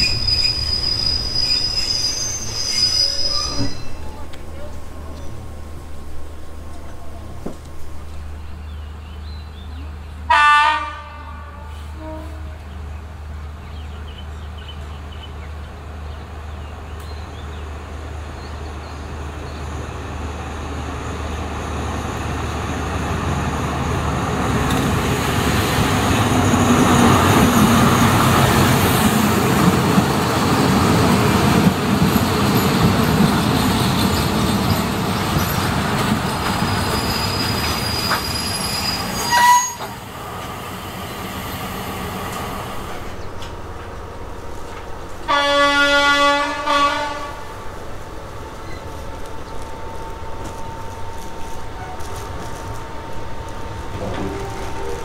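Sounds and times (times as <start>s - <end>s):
train wheels on rails: 0.0s - 10.2s, 12.0s - 55.0s
diesel locomotive engine passing: 0.0s - 55.0s.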